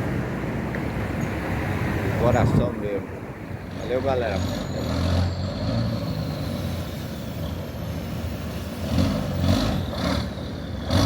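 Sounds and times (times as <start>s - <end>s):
diesel truck engine running: 1.8s - 11.0s.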